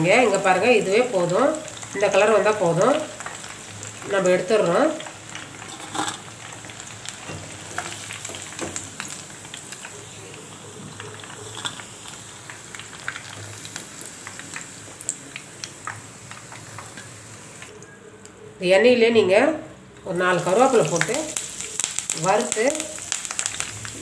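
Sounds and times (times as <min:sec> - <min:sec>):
hot oil sizzling and popping: 0:00.0 - 0:17.9, 0:20.0 - 0:24.0.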